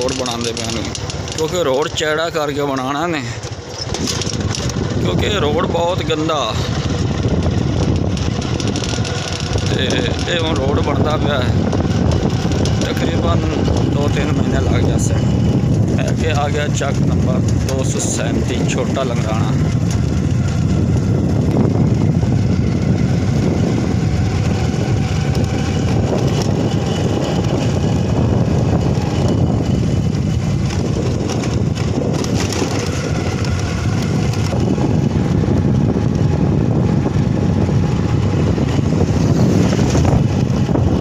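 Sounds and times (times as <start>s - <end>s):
motorcycle engine on gravel road: 0.0s - 41.0s.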